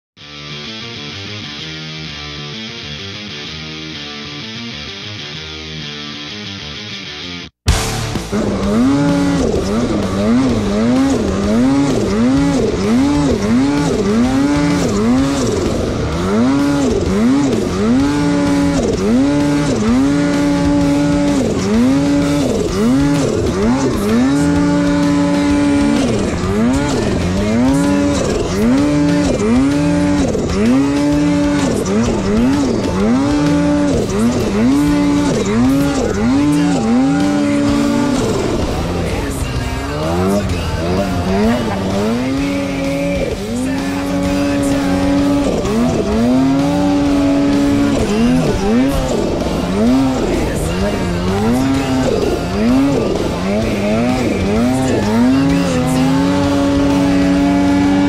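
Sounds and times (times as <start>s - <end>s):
snowmobile engine revving: 7.7s - 58.0s.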